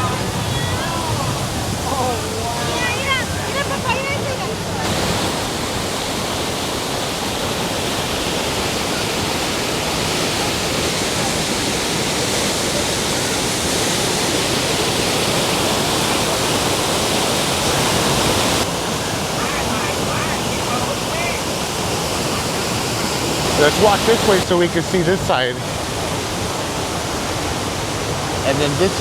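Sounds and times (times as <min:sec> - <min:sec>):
water rushing down rapids: 0:00.0 - 0:29.0.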